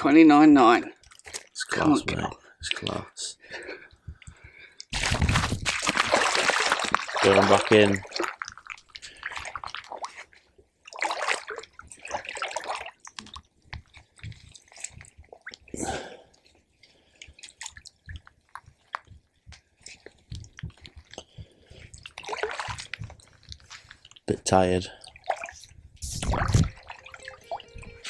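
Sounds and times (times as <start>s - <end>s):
water splashing and dripping: 4.2s - 28.0s.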